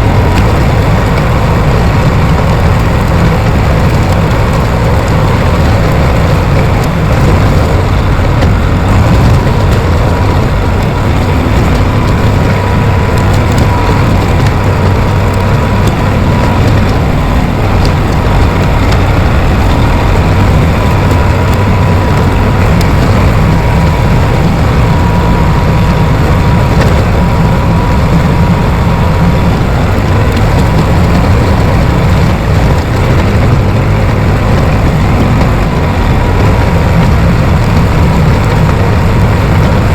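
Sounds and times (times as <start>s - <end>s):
bulldozer diesel engine: 0.0s - 39.9s
faint steady whine: 0.0s - 39.9s.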